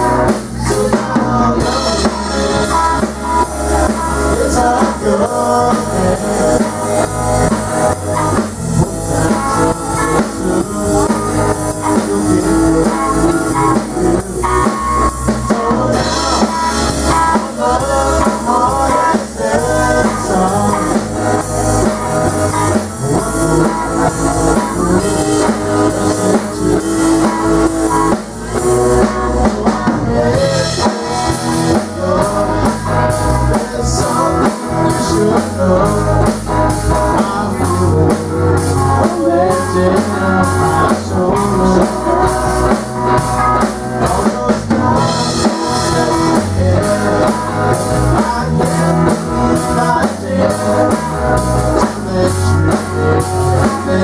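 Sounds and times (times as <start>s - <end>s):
drum kit: 0.0s - 54.0s
electric guitars: 0.0s - 54.0s.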